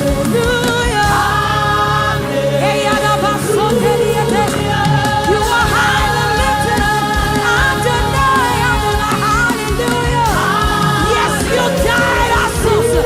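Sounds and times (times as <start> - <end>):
band with steady beat: 0.0 - 13.0
choir singing: 0.0 - 13.0.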